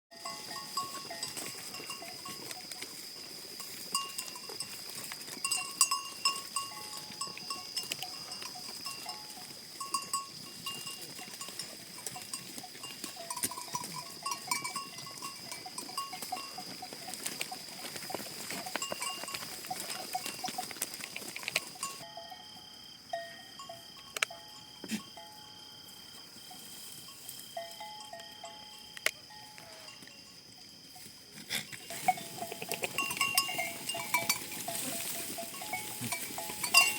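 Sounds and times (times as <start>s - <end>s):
livestock neck bells clinking: 0.1s - 36.9s.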